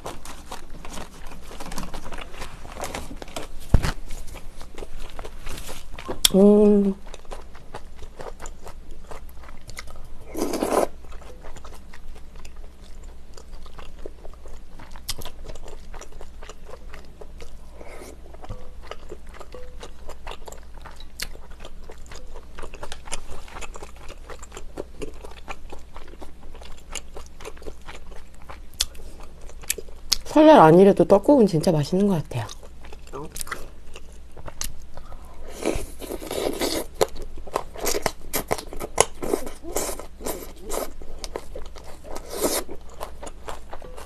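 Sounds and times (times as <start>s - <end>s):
person chewing food: 0.0s - 6.4s, 7.0s - 30.3s, 32.5s - 44.0s.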